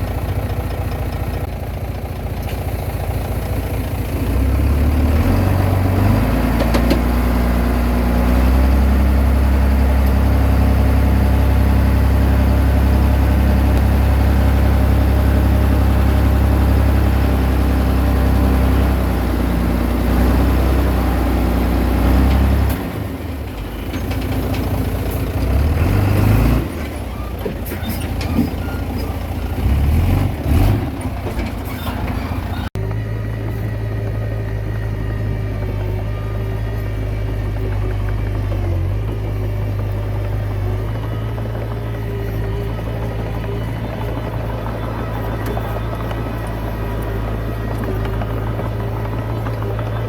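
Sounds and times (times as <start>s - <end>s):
bulldozer diesel engine revving: 0.0s - 50.0s.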